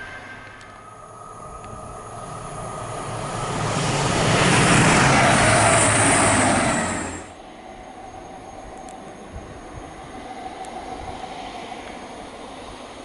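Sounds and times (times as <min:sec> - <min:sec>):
steady background noise: 0:00.0 - 0:13.0
train passing at speed: 0:00.0 - 0:13.0.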